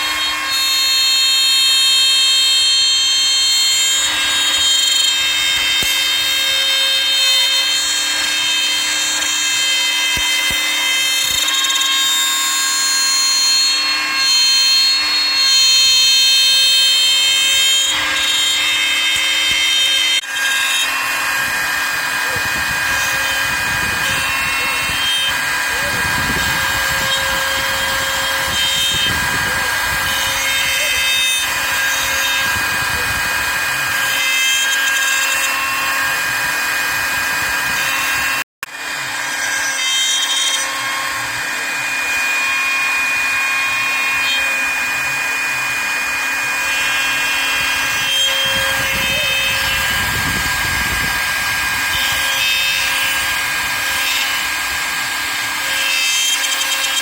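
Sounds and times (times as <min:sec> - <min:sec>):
bit cutting into wood: 0:00.0 - 0:57.0
router spindle whining: 0:00.0 - 0:57.0.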